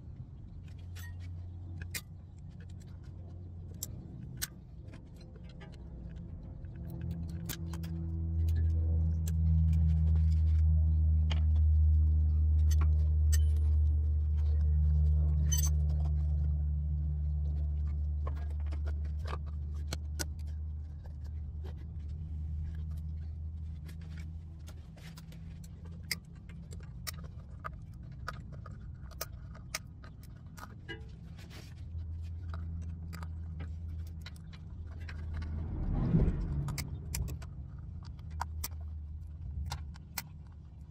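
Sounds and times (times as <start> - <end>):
vehicle engine rumble: 0.0 - 40.9.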